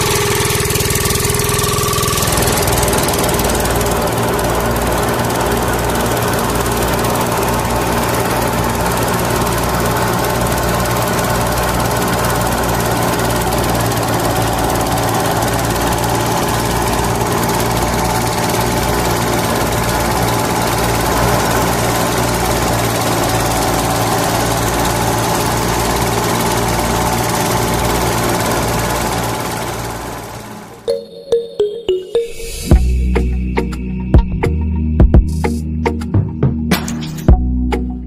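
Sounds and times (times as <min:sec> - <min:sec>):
small motor running steadily: 0:00.0 - 0:30.8.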